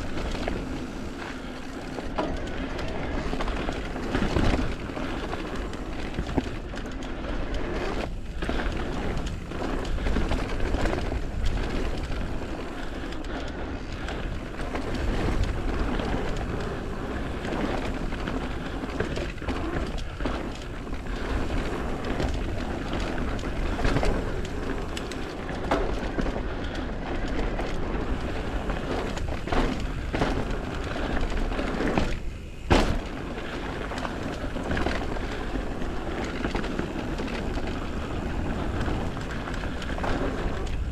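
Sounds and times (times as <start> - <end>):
bike tyres rolling over dirt and rocks: 0.0 - 40.9
wind rumble on microphone: 0.0 - 40.9.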